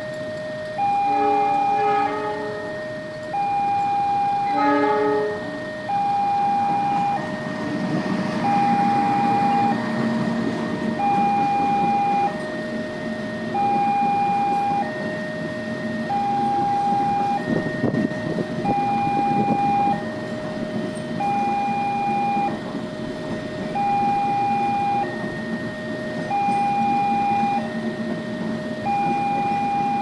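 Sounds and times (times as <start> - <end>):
level crossing two-tone alarm: 0.0 - 7.6, 8.3 - 30.0
low rumble of traffic: 0.0 - 30.0.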